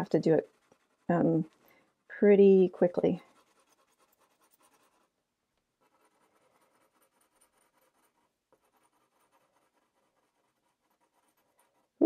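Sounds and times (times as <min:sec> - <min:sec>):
pencil strokes on paper: 0:00.0 - 0:05.2, 0:05.8 - 0:12.0.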